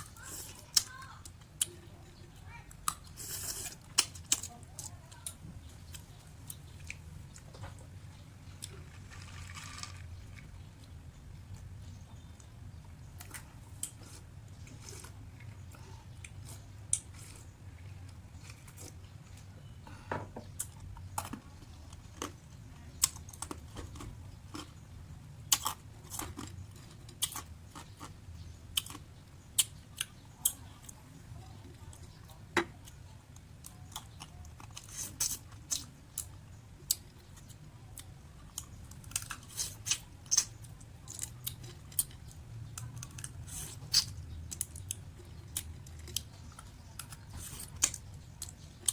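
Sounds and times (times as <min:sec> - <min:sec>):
chewing and crunching: 0:00.0 - 0:19.8, 0:20.4 - 0:48.9.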